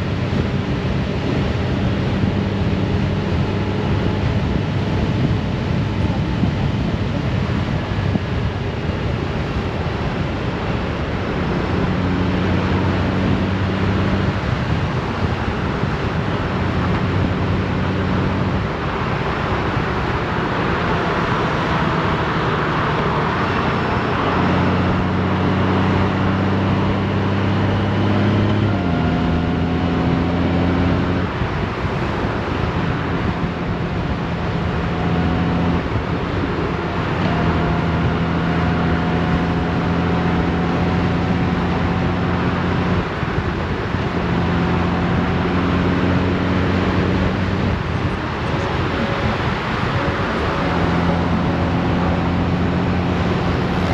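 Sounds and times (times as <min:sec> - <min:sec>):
motorcycle engine hum: 0:00.0 - 0:53.9
wind and road noise: 0:00.0 - 0:53.9.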